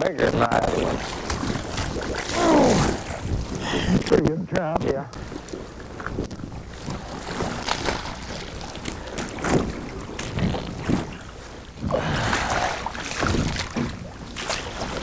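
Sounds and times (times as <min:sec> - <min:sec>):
water noise: 0:00.0 - 0:15.0
water splashes: 0:00.0 - 0:15.0
wind buffeting microphone: 0:00.0 - 0:15.0.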